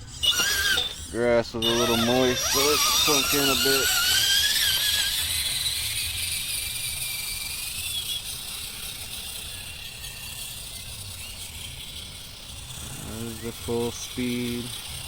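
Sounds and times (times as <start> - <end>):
electric motor whining: 0.0 - 15.0
faint low drivetrain rumble: 0.0 - 15.0.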